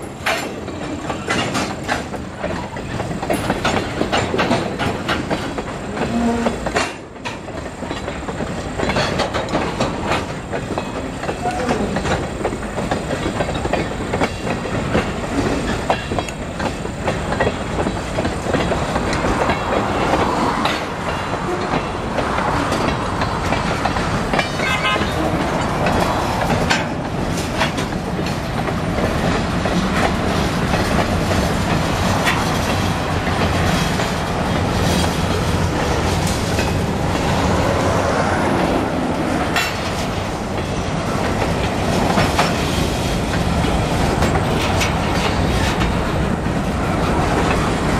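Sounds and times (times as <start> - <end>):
train wheels rumbling on rails: 0.0 - 47.9
wheels clicking over rail joints: 0.0 - 47.9.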